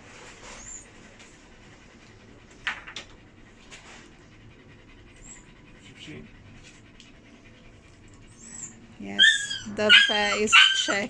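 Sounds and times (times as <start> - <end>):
animal panting: 0.0 - 11.0.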